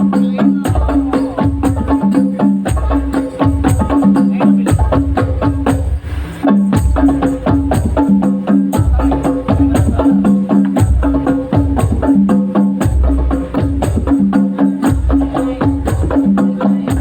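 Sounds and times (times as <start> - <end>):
hand-drum and tambourine strikes: 0.0 - 17.0
loud music through sound system: 0.0 - 17.0
deep bass hits: 0.7 - 17.0.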